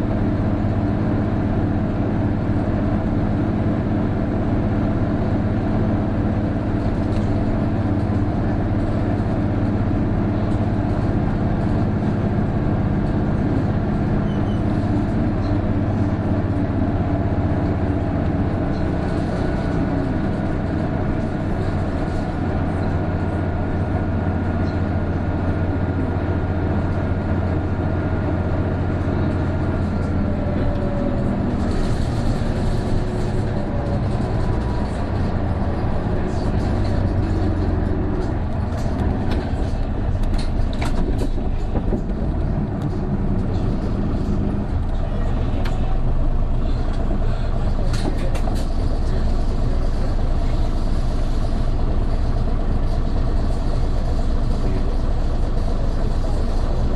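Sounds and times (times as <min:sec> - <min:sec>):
bus diesel engine running: 0:00.0 - 0:56.9
faint turbo whine: 0:00.0 - 0:56.9.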